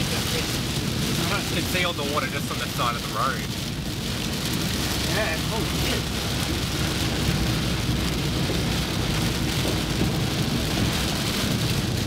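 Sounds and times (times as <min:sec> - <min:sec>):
heavy rain on a car: 0:00.0 - 0:12.0
low rumble: 0:00.0 - 0:12.0.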